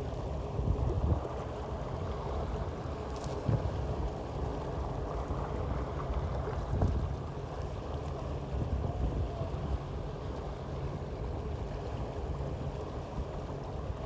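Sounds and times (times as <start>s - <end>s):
low rumble of water: 0.0s - 14.0s.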